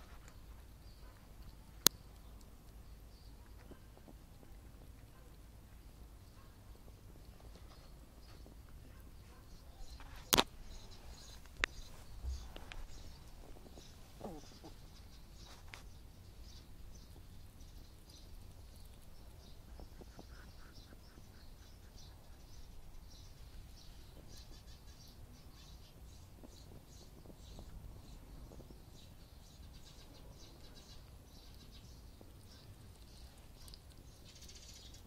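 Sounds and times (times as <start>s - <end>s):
hedgehog chewing and smacking: 0.0s - 35.0s.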